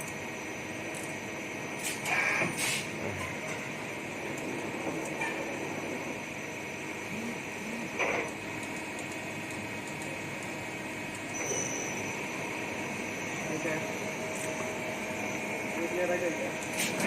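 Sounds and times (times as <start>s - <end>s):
machine hiss with high whine: 0.0s - 17.0s.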